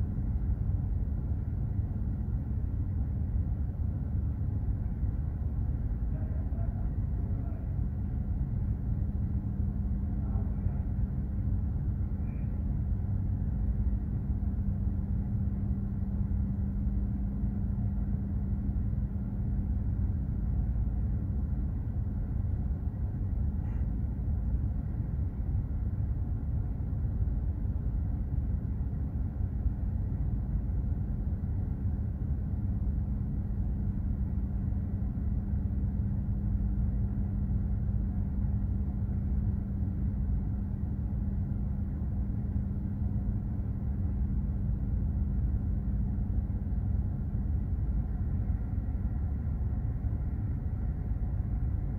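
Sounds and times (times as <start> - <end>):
ship engine rumble: 0.0 - 51.9.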